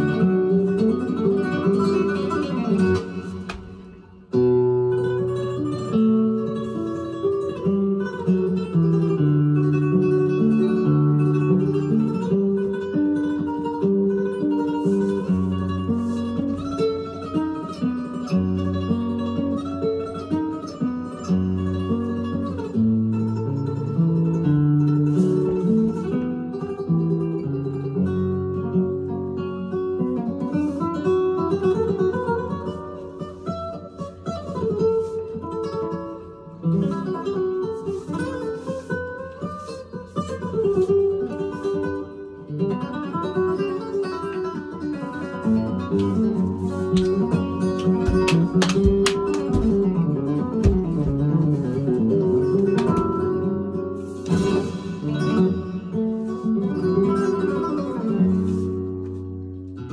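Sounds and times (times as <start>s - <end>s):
flamenco acoustic guitar: 0.0s - 59.9s.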